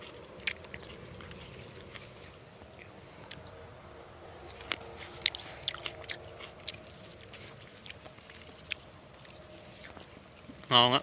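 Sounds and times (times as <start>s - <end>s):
faint steady hum: 0.0s - 11.0s
person chewing grapes: 0.0s - 11.0s.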